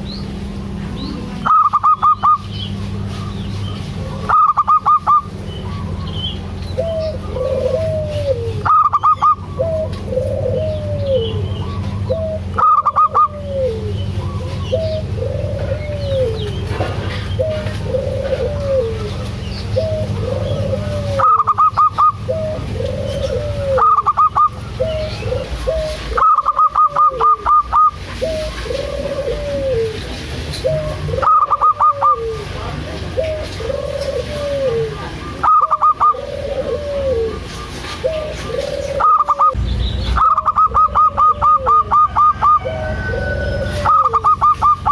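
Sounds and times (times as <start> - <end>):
dove cooing: 0.0 - 39.6, 40.2 - 44.9
steady low hum: 0.0 - 44.9.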